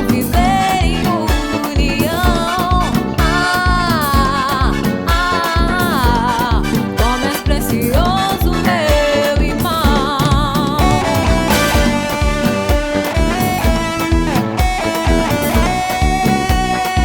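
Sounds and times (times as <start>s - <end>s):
bass: 0.0s - 17.0s
drum kit beat: 0.0s - 17.0s
electric guitar melody: 0.0s - 17.0s.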